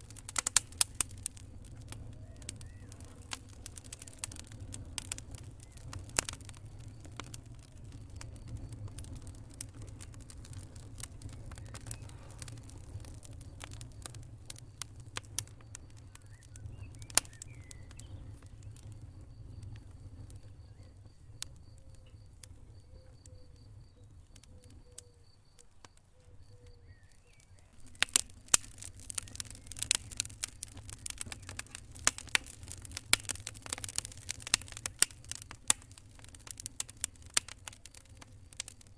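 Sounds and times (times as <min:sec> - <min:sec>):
sharp pops of burning wood: 0:00.0 - 0:38.9
wood fire crackling: 0:00.0 - 0:38.9.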